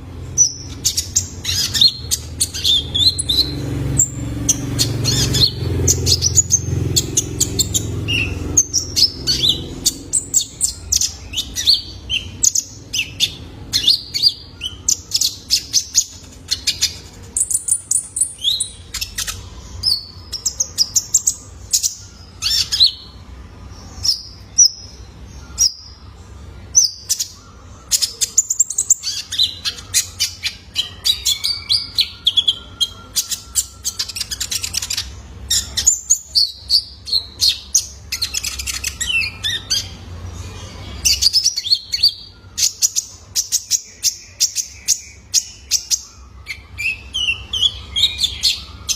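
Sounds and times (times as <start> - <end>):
bird chirping and trilling: 0.0 - 48.9.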